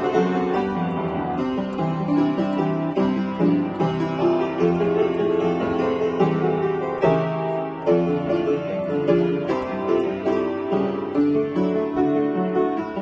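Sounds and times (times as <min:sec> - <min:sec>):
upright piano playing: 0:00.0 - 0:13.0.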